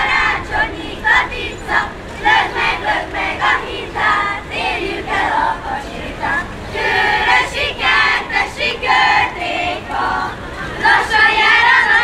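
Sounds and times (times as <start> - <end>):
children singing folk song: 0.0 - 12.0.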